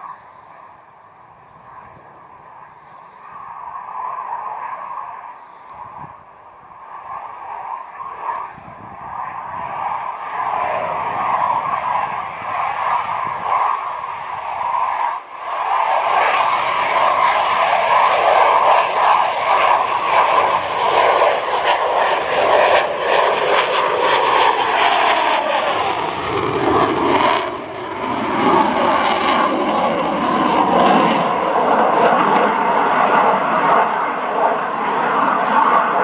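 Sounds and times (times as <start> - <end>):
jet engine roaring: 0.0 - 36.0.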